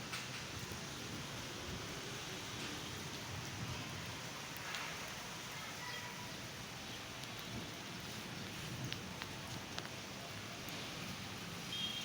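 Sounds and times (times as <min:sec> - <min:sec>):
sharp rain patter: 0:00.0 - 0:12.0
steady rain hiss: 0:00.0 - 0:12.0.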